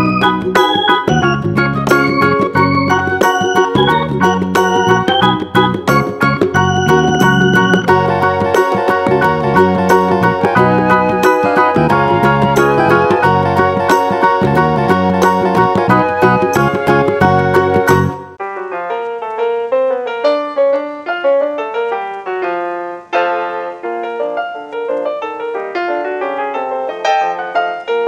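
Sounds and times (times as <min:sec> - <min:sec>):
jaunty ragtime piano: 0:00.0 - 0:28.0.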